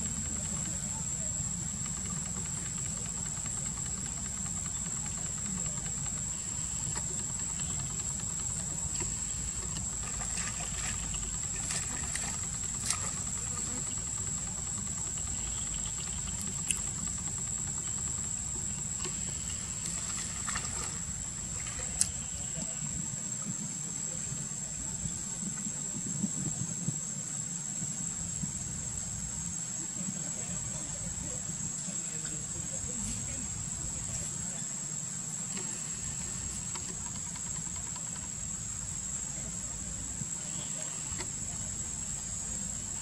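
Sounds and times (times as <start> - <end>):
high insect drone: 0.0 - 43.0.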